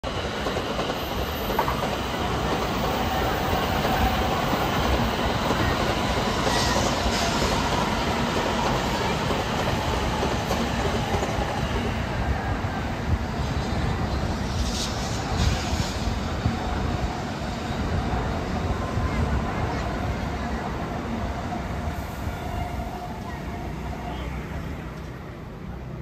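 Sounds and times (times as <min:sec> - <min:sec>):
wheels on rail: 0:00.1 - 0:26.0.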